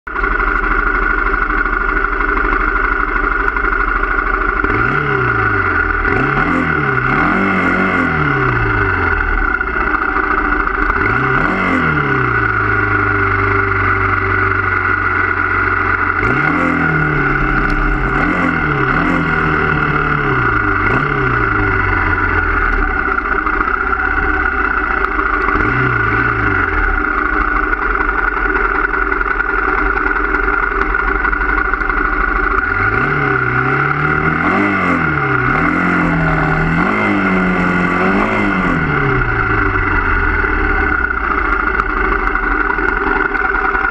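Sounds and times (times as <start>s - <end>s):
motorcycle engine revving: 0.1s - 43.9s.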